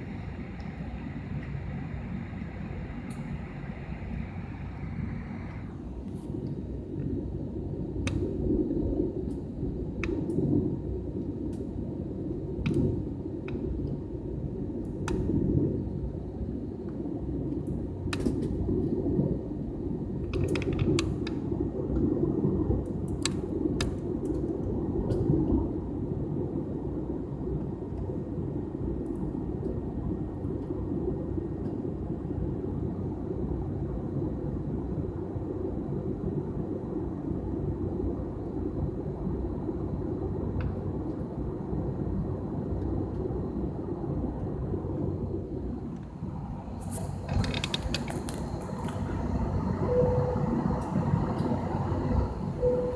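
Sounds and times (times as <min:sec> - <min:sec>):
airliner cabin engine drone: 0:00.0 - 0:52.9.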